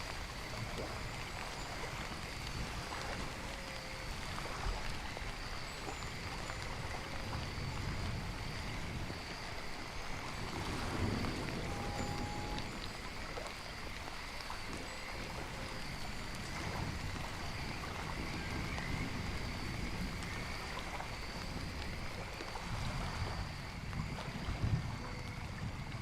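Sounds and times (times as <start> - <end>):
rain water noise: 0.0 - 26.0
faint high-pitched tones: 0.4 - 23.6.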